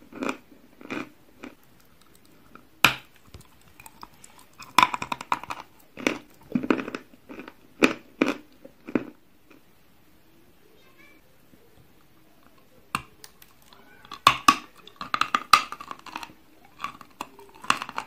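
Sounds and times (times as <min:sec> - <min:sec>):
chewing chalk crunches: 0:00.0 - 0:09.6, 0:12.4 - 0:18.0.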